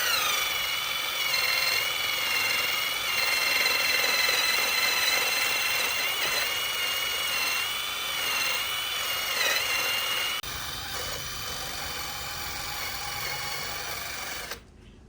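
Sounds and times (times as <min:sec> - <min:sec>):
small power tool whining: 0:00.0 - 0:14.6.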